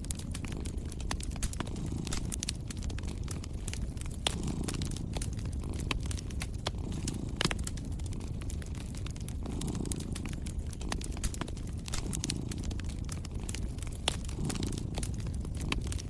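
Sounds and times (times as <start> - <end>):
steady low rumble: 0.0 - 16.0
wood fire crackling: 0.0 - 16.0.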